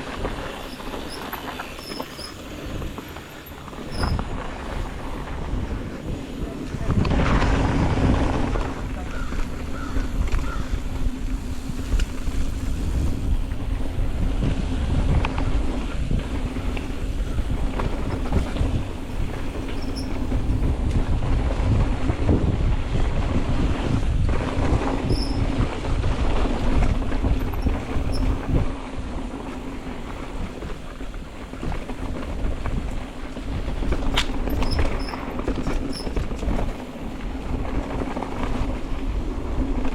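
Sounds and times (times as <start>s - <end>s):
bike knocks and rattles: 0.0s - 39.9s
wind buffeting microphone: 0.0s - 39.9s.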